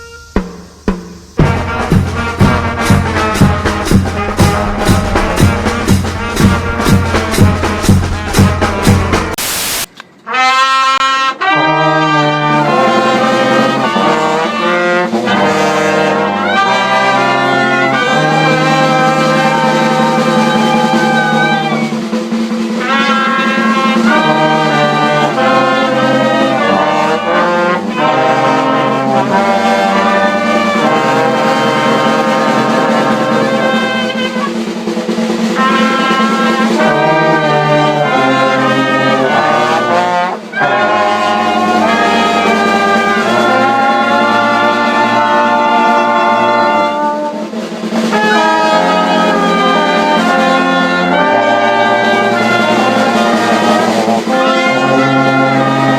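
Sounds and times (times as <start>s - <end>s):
brass band playing: 0.0s - 55.9s.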